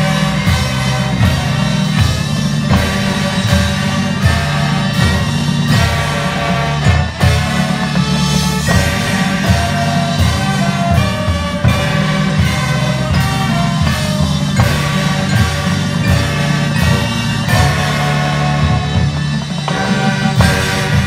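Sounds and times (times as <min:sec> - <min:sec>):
drum hits: 0:00.0 - 0:21.0
held brass notes: 0:00.0 - 0:21.0.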